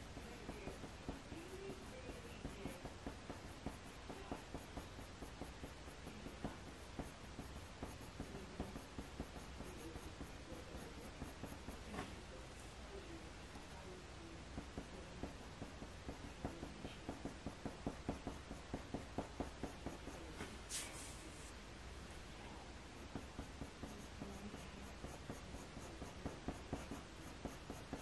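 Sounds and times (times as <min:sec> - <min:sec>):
pencil scratching on paper: 0:00.0 - 0:12.7, 0:14.5 - 0:21.6, 0:23.0 - 0:28.0.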